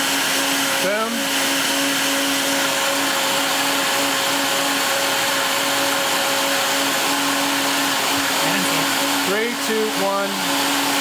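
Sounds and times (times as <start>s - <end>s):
blender running: 0.0s - 11.0s.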